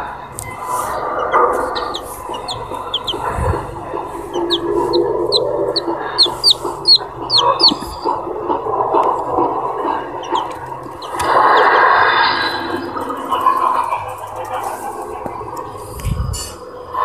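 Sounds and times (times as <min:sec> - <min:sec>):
background murmur: 0:00.0 - 0:17.0
chick peeping: 0:00.4 - 0:16.6.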